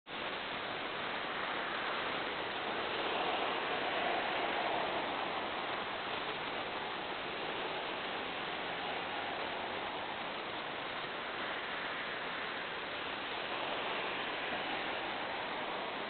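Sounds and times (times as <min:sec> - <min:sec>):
car passing: 0:00.1 - 0:16.0
steady rushing noise: 0:00.1 - 0:16.0.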